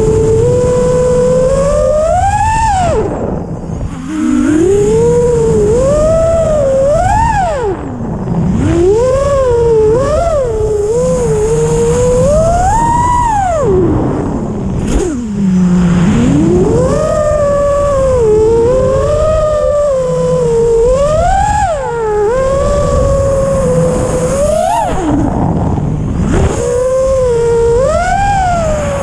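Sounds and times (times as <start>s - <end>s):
drone motors whining: 0.0s - 29.0s.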